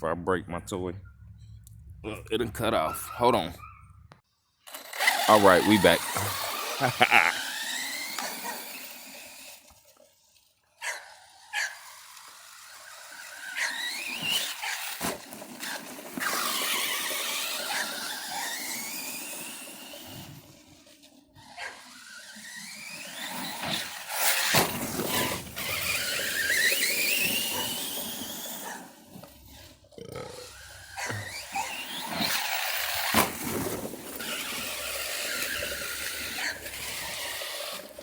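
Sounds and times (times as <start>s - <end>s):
electric motor whining: 4.7s - 10.4s, 11.2s - 38.0s.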